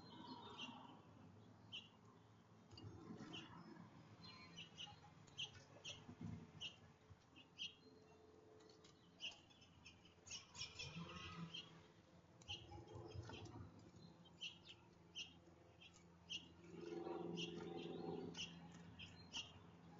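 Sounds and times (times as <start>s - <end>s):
songbird chirps: 0.0s - 19.9s.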